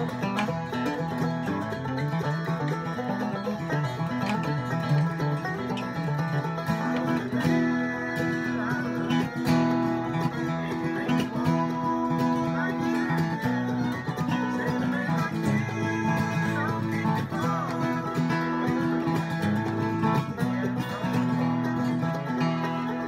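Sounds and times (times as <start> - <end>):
bluegrass acoustic guitar: 0.0 - 23.0.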